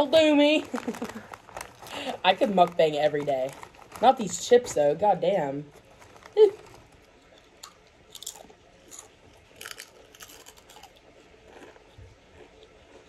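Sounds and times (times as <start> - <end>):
chips crunched while chewing: 0.6 - 4.5, 5.7 - 13.0.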